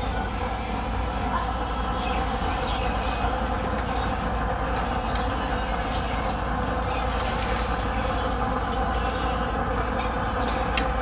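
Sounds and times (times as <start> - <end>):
steady hum: 0.0 - 11.0
fish simmering in a pot: 1.8 - 11.0.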